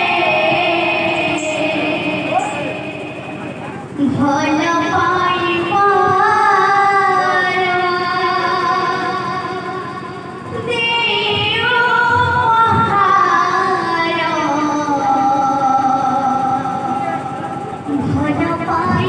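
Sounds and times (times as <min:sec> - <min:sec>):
woman singing devotional song: 0:00.0 - 0:03.4, 0:04.0 - 0:17.2, 0:17.8 - 0:19.0.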